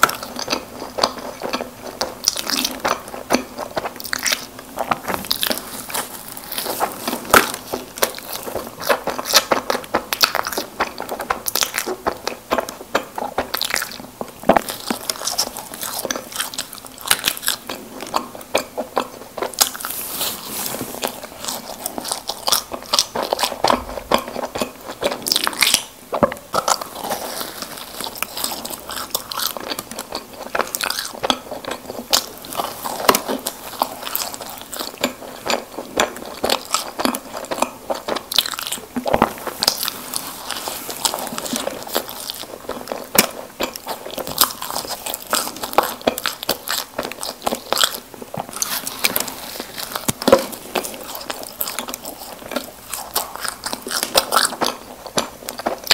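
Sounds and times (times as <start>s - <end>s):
person chewing doughnuts: 0.0s - 55.9s.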